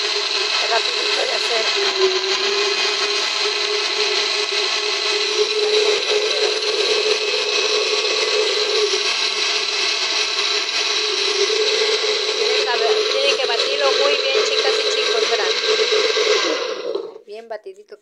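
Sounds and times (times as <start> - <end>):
electric blender running: 0.0 - 17.3.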